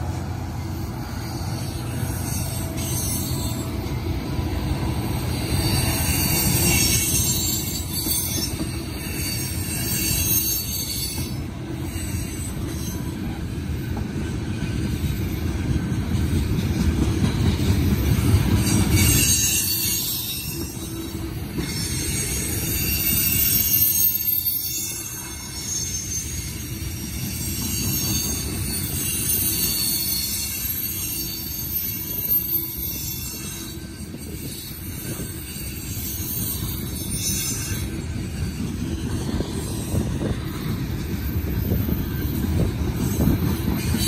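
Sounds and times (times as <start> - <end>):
freight train wheels on rail: 0.0 - 44.0.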